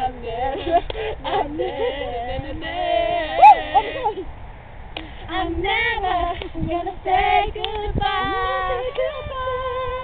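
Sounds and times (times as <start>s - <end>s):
girls singing together: 0.0s - 4.3s, 5.3s - 10.0s.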